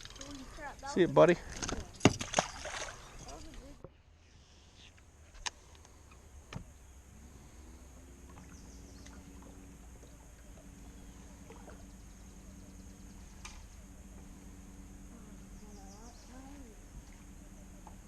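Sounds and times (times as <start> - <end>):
low motor hum: 0.0 - 18.0.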